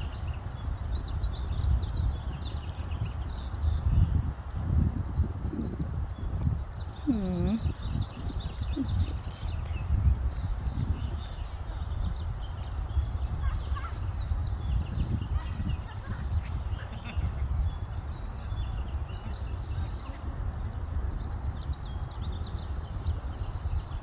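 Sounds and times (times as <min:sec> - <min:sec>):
low rumble on microphone: 0:00.0 - 0:24.0
small birds chirping: 0:00.0 - 0:24.0.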